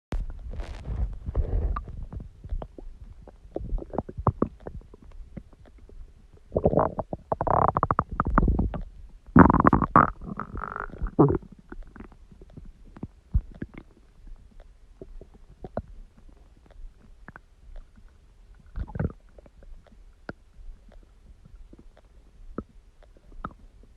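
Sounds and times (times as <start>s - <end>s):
stomach growling and gurgling: 0.2s - 23.9s.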